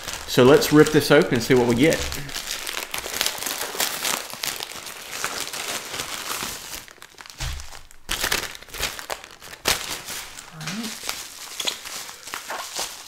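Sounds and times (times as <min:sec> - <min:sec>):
plastic bag crinkling and tearing: 0:00.0 - 0:13.0.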